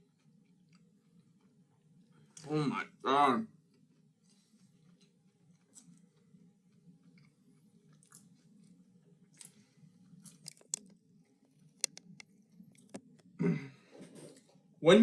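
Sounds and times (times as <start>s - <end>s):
person chewing food: 0.0s - 2.4s, 3.6s - 13.4s.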